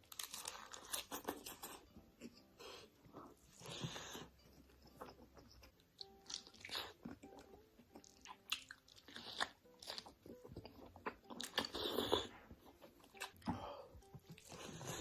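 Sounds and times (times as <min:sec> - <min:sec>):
crunchy chewing of food: 0:00.0 - 0:02.5, 0:03.1 - 0:15.0.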